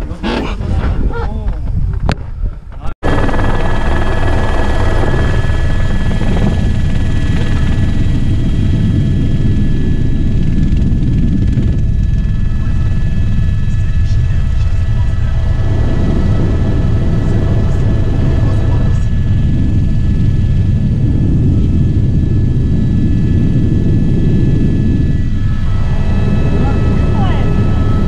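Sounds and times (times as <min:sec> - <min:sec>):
airplane engine rumble and whine: 0:00.0 - 0:28.0.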